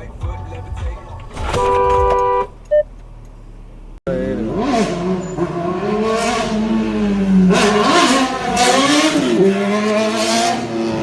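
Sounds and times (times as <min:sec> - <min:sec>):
road and wind noise: 0:00.0 - 0:11.0
vehicle engine revving: 0:01.2 - 0:11.0.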